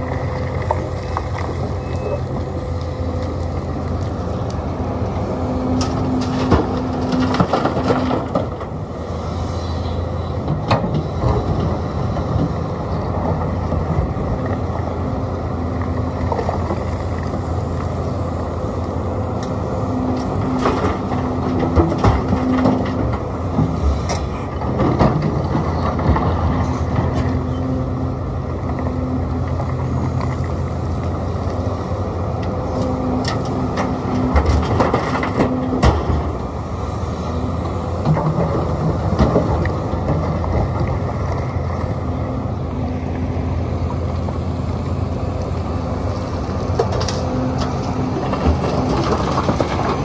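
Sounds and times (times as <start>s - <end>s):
excavator diesel engine under load: 0.0s - 50.0s.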